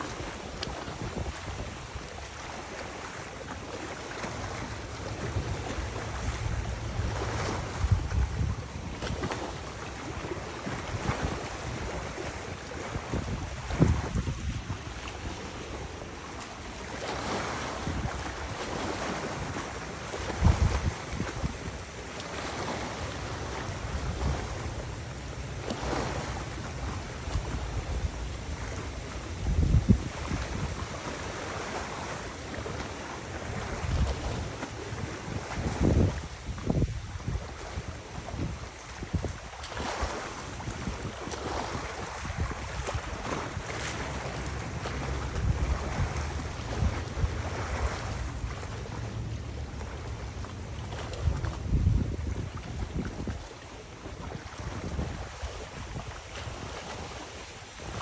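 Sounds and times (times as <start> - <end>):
rushing water: 0.0 - 58.0
wind buffeting microphone: 0.0 - 58.0.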